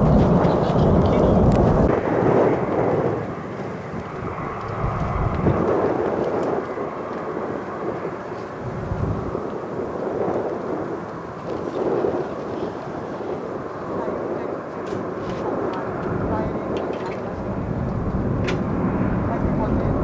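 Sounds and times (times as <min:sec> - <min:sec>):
jet airliner engine noise: 0:00.0 - 0:20.0
wind buffeting microphone: 0:00.0 - 0:20.0.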